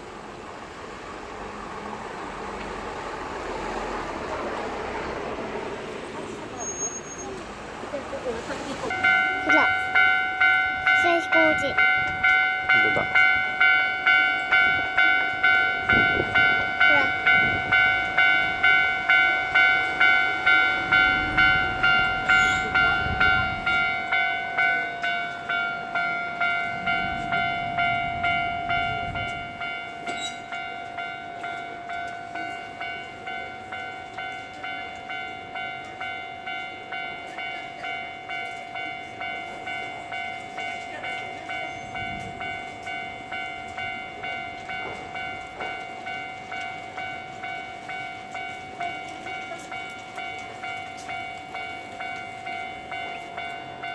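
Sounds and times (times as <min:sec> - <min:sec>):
train passing rumble: 0:00.0 - 0:53.9
level crossing alarm dinging: 0:08.8 - 0:53.9.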